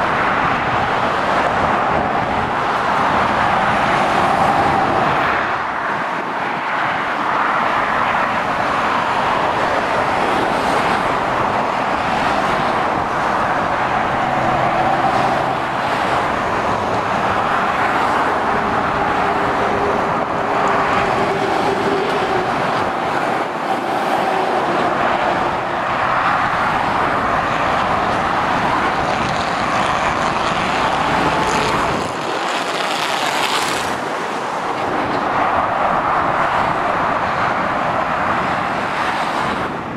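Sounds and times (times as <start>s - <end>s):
motorway traffic passing: 0.0s - 39.9s.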